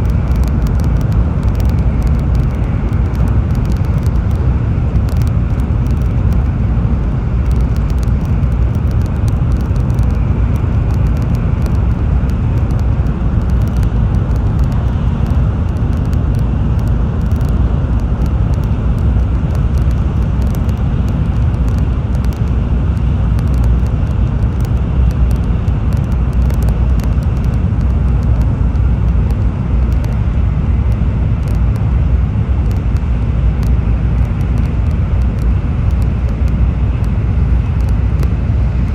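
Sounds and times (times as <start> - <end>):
train running at speed: 0.0 - 38.9.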